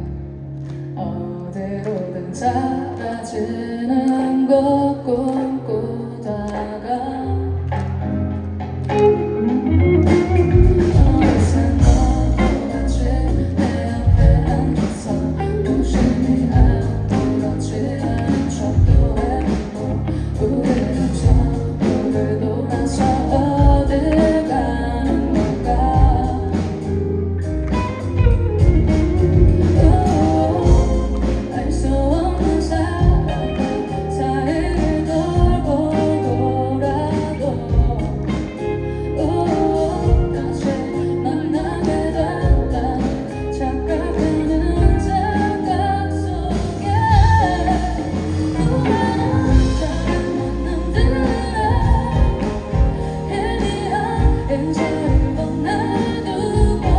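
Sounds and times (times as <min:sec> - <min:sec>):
electric guitar: 0:00.0 - 0:56.9
woman singing: 0:00.9 - 0:08.0, 0:09.0 - 0:56.9
drums: 0:07.6 - 0:56.9.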